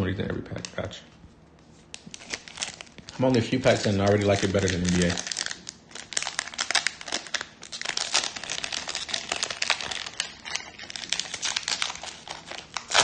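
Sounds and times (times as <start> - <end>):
wrapper crinkling and tearing: 1.9 - 13.0.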